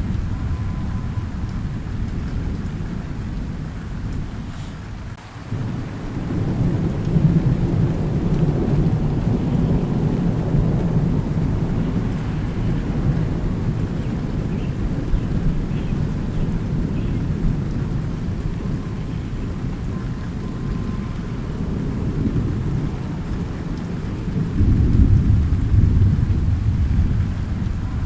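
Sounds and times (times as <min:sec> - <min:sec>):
rolling thunder: 0:00.0 - 0:28.0
steady rain: 0:00.0 - 0:28.0.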